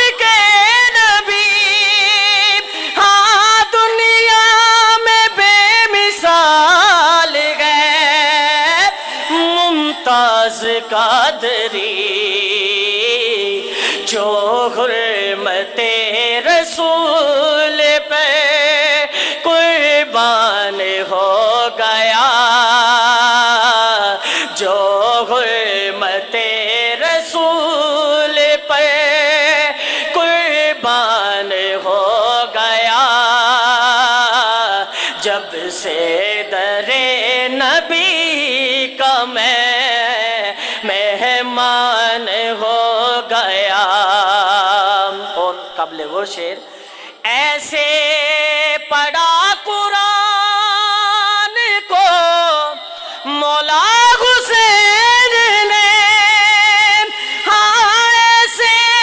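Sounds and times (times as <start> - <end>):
person singing: 0.0 - 59.0.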